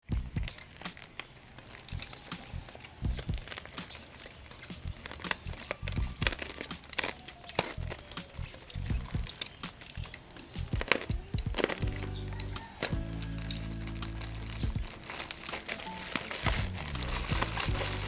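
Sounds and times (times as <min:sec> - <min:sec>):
handling clicks and knocks: 0:00.1 - 0:18.0
plastic packaging crinkling and tearing: 0:00.5 - 0:18.0.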